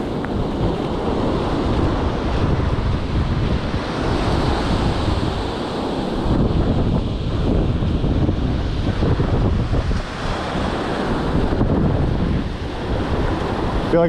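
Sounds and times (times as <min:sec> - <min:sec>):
surf washing up beach: 0:00.0 - 0:14.0
wind buffeting microphone: 0:00.0 - 0:14.0.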